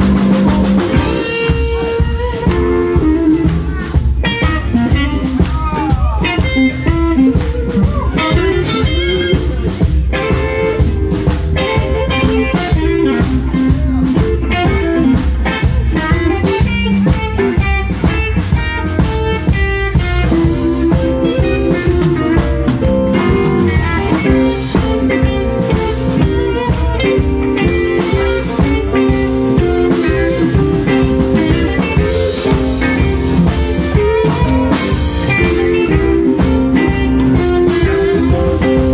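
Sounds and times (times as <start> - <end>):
bass guitar: 0.0 - 38.9
drum kit beat: 0.0 - 38.9
electric guitars: 0.0 - 38.9.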